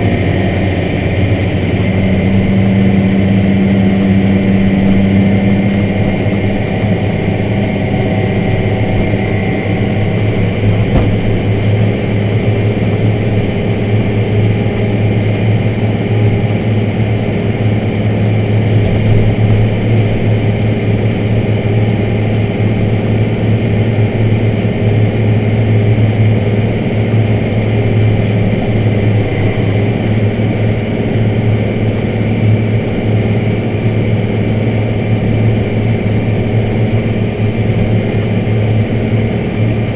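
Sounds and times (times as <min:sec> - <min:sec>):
tractor diesel engine droning: 0:00.0 - 0:39.9.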